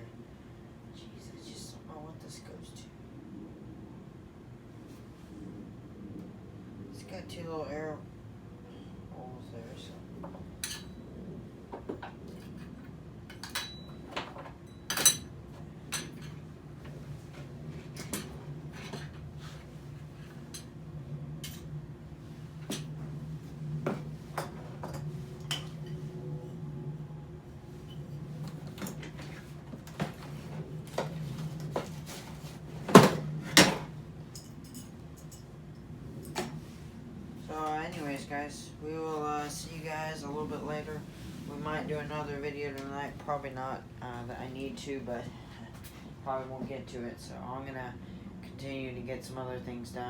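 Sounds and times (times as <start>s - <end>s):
low hum: 0.0s - 46.3s.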